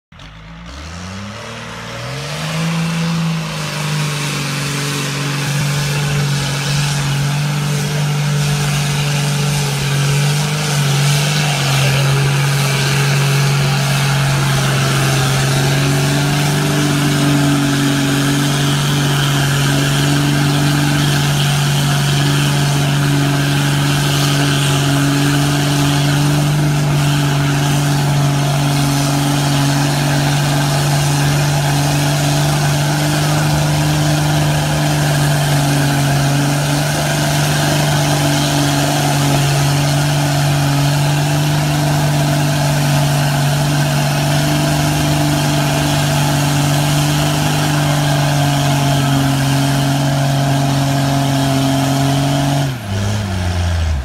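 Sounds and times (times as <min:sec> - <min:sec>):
diesel truck engine revving: 0:00.0 - 0:54.0
truck churning through mud: 0:00.1 - 0:54.0.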